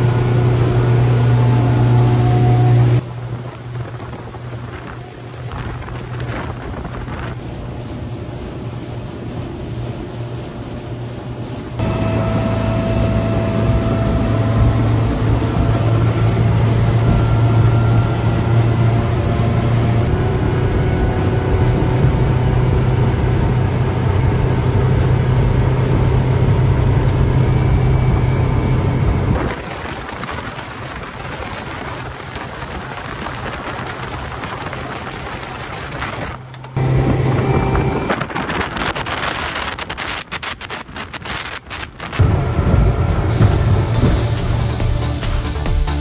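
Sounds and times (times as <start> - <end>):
outboard motor droning: 0.0 - 39.8, 41.2 - 46.0
rush of wake and spray: 0.0 - 46.0.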